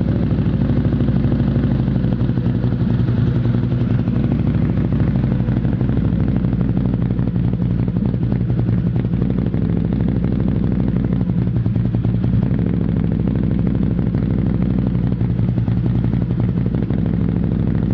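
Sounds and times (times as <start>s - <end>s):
car engine idling roughly: 0.1s - 17.9s.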